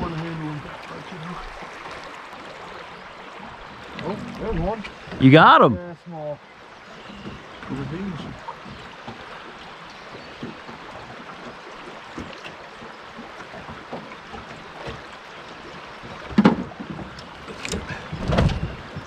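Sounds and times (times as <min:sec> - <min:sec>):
water washing against boat hull: 0:00.0 - 0:05.7, 0:07.0 - 0:19.0.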